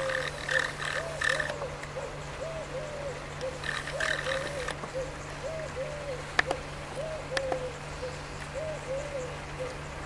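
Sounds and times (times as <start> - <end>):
dove cooing: 0.0 - 9.9
steady low hum: 0.0 - 10.0.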